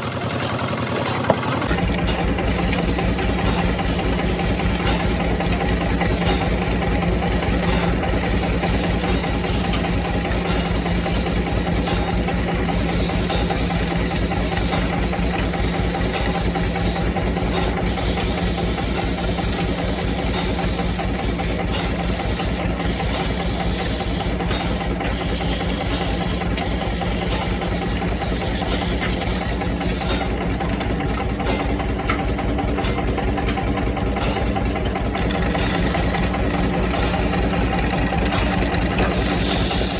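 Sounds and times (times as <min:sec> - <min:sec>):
lathe motor hum: 0:00.0 - 0:39.9.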